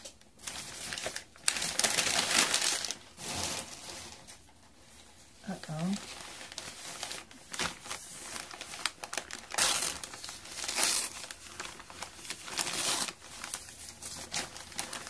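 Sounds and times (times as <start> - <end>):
packing wrap crinkling: 0.0 - 4.4, 5.5 - 15.0.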